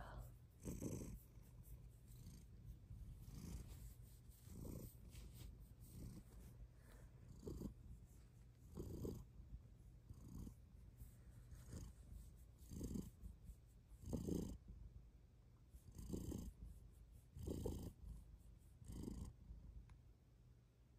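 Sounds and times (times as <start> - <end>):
kitten purring: 0.0 - 14.7, 15.6 - 19.4.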